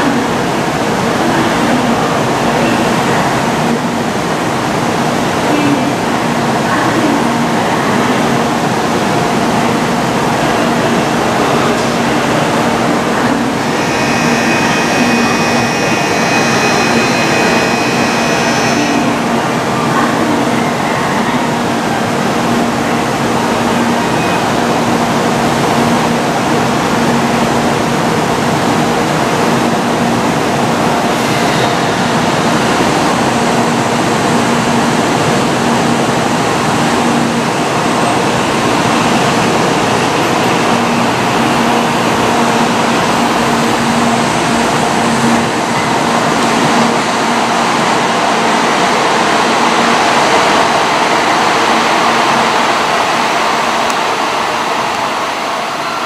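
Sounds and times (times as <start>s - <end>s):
train hum: 0.0s - 56.0s.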